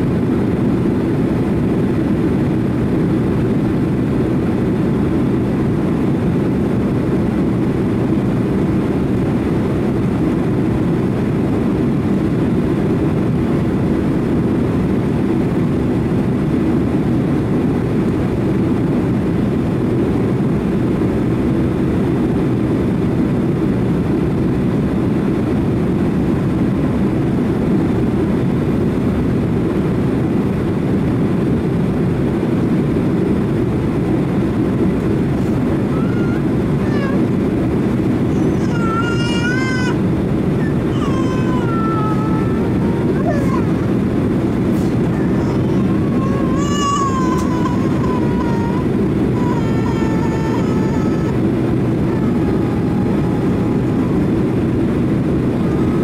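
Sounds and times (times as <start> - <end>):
jet cabin engine and airflow rushing: 0.0 - 56.0.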